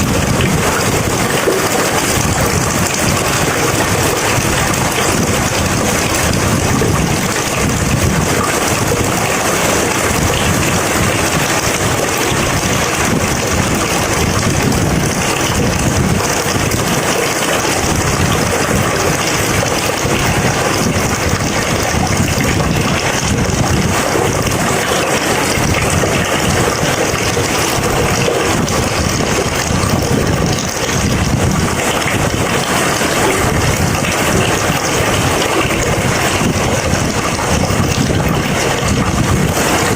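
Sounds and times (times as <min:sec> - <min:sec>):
heavy rain falling: 0:00.0 - 0:39.9
thunder rumble: 0:00.0 - 0:39.9.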